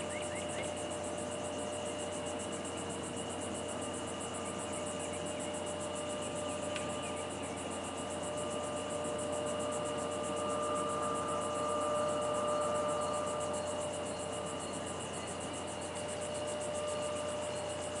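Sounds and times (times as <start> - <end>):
background hum and hiss: 0.0 - 18.0
fast high-pitched pulsing: 0.0 - 18.0.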